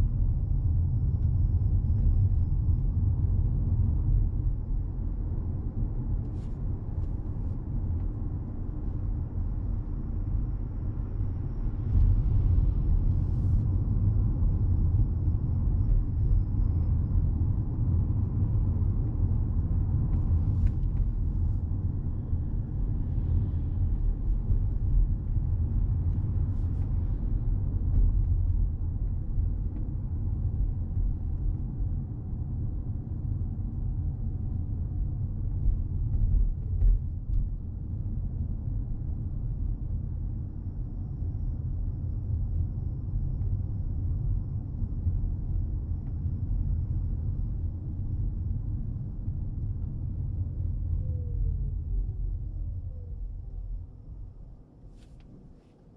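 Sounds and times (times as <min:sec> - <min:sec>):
road and tyre noise in car: 0:00.0 - 0:55.9.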